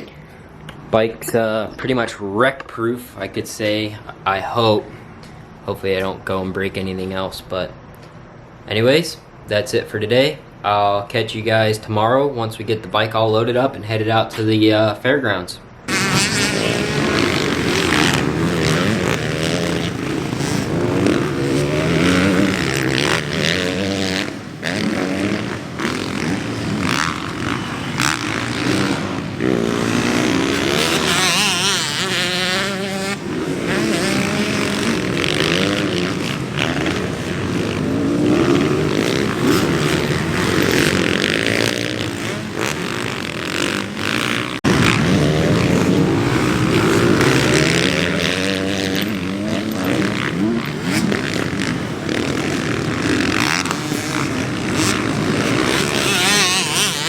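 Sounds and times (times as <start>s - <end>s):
dirt bike engines revving: 0.0s - 12.1s, 15.8s - 57.0s.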